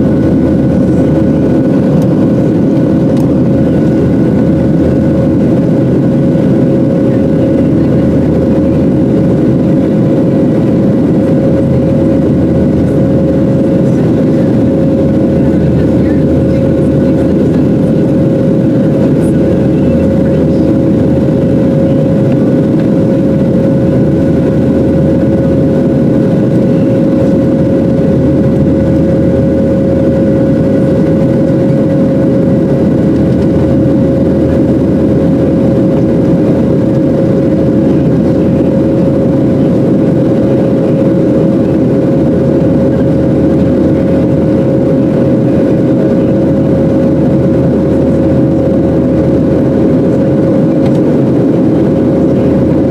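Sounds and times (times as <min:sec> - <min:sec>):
jet engine drone in cabin: 0:00.0 - 0:52.9.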